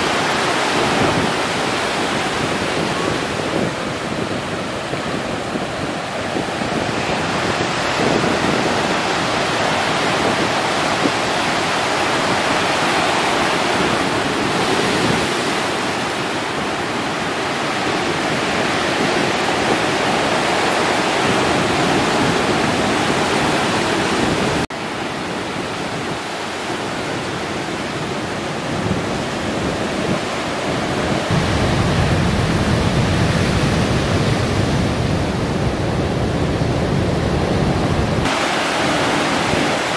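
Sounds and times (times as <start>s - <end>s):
surf roaring: 0.0s - 39.9s.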